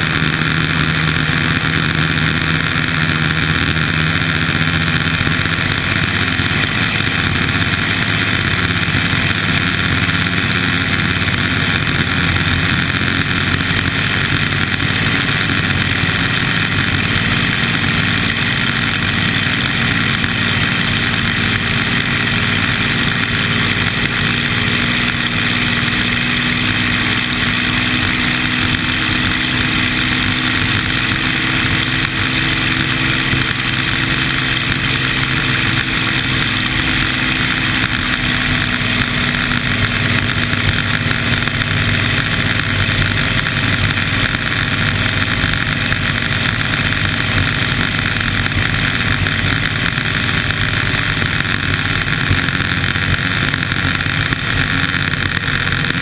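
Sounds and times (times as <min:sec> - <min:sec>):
boat engine running hard: 0:00.0 - 0:56.0
rushing wind: 0:00.0 - 0:56.0.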